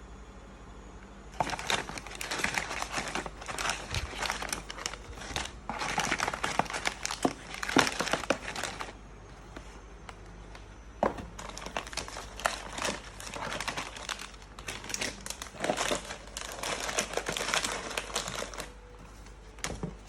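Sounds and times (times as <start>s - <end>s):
plastic packaging crinkling: 1.4s - 9.0s, 10.4s - 20.0s.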